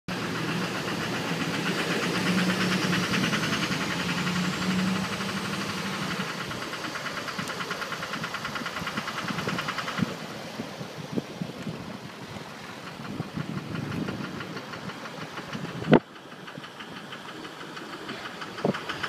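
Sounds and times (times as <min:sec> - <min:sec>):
diesel engine knocking clatter: 0:00.1 - 0:19.0.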